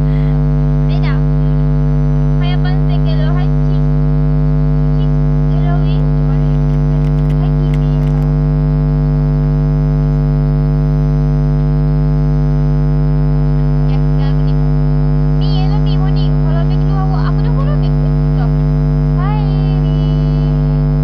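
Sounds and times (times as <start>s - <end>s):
loud electrical hum: 0.0s - 21.0s.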